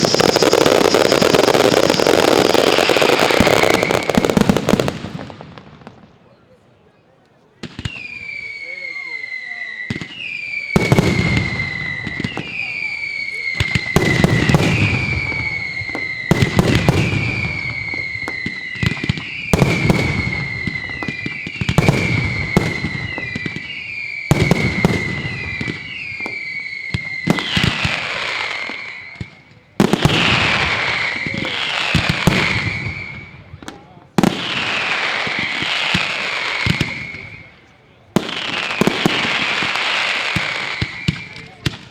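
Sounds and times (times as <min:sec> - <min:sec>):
falling firework whistles: 0:00.0 - 0:05.5, 0:07.6 - 0:41.9.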